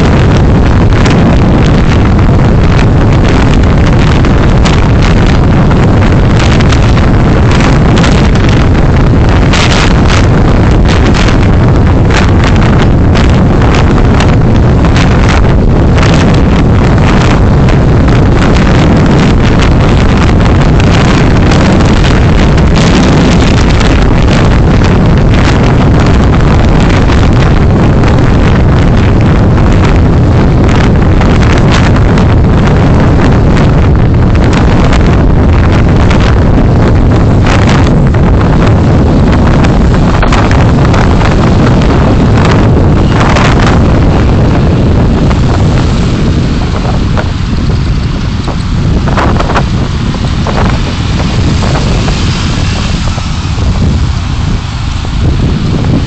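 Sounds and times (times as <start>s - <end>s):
road noise from moving vehicle: 0.0s - 56.0s
wind rumble on microphone: 0.0s - 56.0s.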